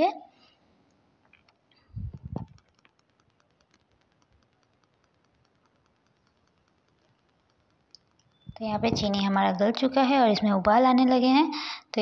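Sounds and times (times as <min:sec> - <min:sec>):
heating pan ticking: 0:01.5 - 0:12.0.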